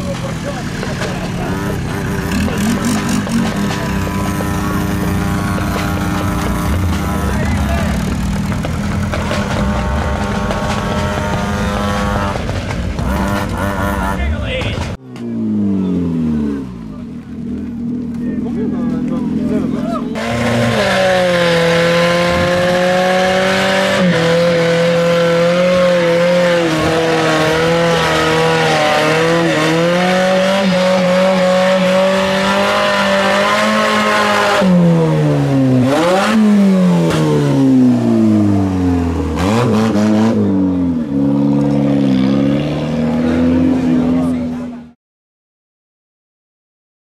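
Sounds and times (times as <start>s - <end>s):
car engine at high revs: 0.0s - 45.0s.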